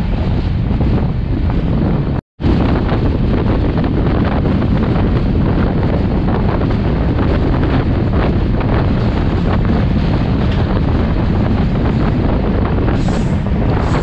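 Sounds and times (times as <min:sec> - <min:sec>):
train running noise: 0:00.0 - 0:14.0
wind buffeting microphone: 0:00.0 - 0:14.0.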